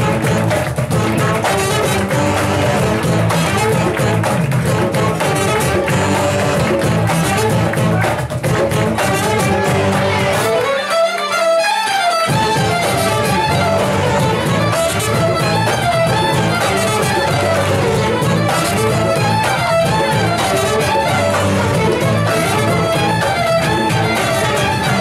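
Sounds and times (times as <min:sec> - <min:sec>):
tuba bass line: 0:00.0 - 0:10.6, 0:12.3 - 0:25.0
fiddles playing dance tune: 0:00.0 - 0:25.0.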